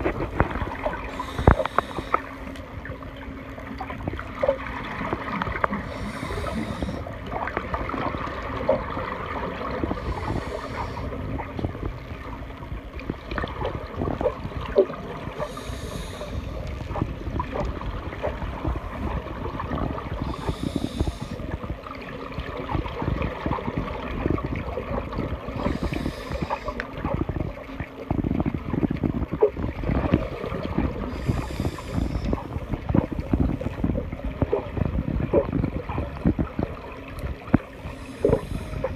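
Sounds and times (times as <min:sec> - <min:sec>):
low underwater rumble and crackle: 0:00.0 - 0:38.9.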